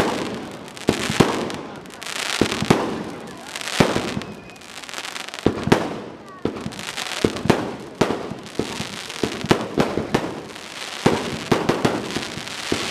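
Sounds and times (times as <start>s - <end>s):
fireworks bangs: 0.0s - 12.9s
fireworks crackling tail: 0.0s - 12.9s.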